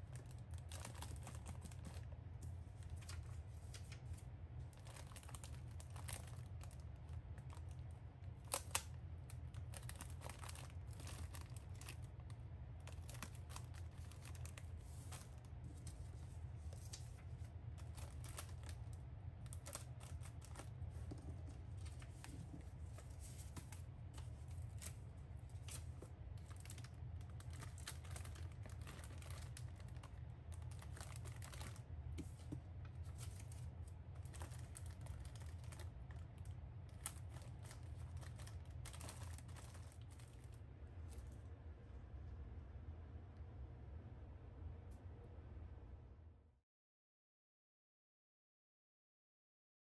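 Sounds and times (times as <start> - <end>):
cellophane bags crinkling: 0.0 - 15.9, 16.8 - 41.3
steady low hum: 0.0 - 46.6.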